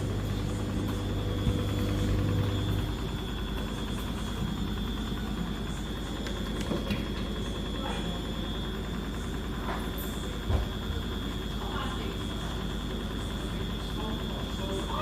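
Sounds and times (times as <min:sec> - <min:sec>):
deeper hum: 0:00.0 - 0:12.4
washing machine running: 0:00.0 - 0:15.0.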